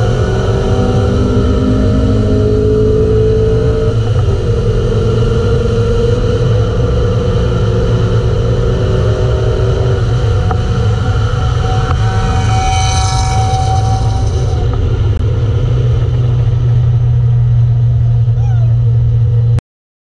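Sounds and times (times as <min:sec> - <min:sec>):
car engine accelerating hard: 0:00.0 - 0:19.6
road and wind noise: 0:00.0 - 0:19.6.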